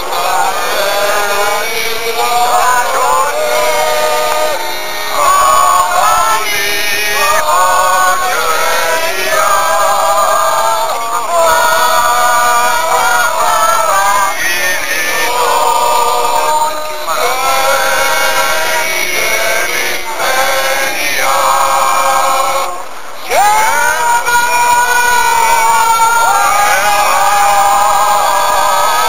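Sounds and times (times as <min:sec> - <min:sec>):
group of people singing: 0:00.0 - 0:29.0.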